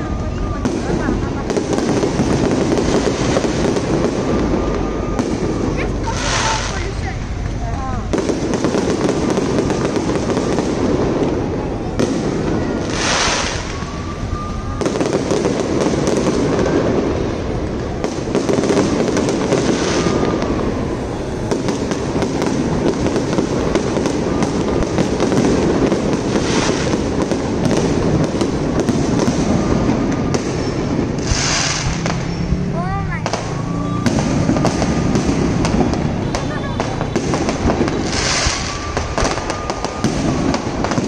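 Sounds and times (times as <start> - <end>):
fireworks bursting and crackling: 0.0 - 41.0
loud firework bangs: 0.0 - 41.0.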